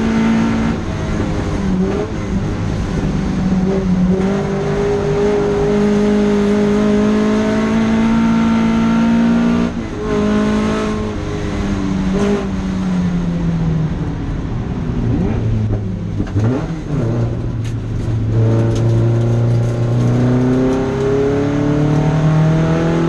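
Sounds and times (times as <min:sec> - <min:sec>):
car engine running hard: 0:00.0 - 0:23.0.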